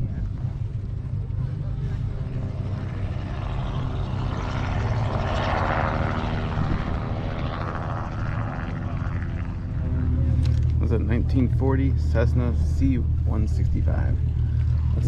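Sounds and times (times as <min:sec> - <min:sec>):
aircraft passing overhead: 0:00.0 - 0:15.0
low engine hum: 0:00.0 - 0:15.0.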